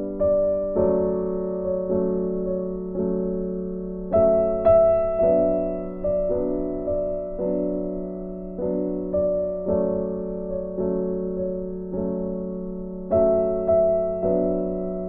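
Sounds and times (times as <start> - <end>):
slow keyboard notes and chords: 0.0 - 15.0.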